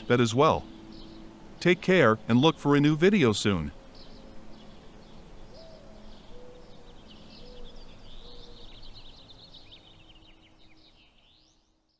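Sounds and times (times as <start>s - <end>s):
background hiss: 0.0s - 11.9s
small birds chirping: 0.0s - 11.9s.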